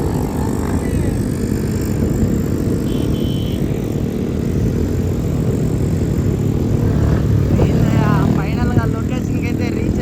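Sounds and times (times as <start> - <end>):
motor vehicle rumbling: 0.0 - 10.0.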